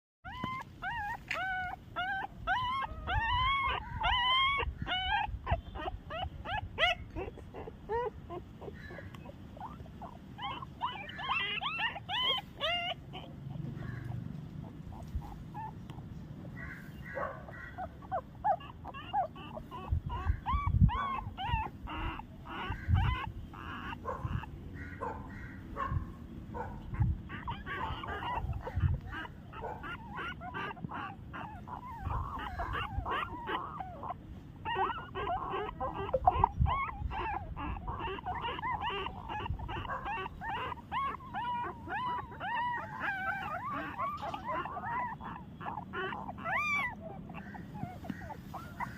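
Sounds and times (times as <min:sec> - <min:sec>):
puppies whimpering and squealing: 0:00.2 - 0:48.9.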